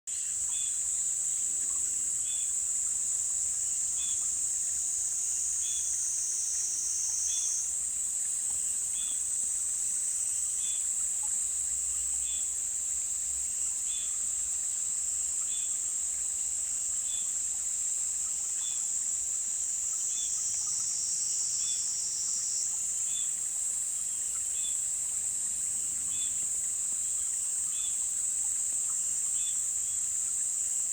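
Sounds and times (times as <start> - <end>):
insects trilling: 0.1 - 30.9.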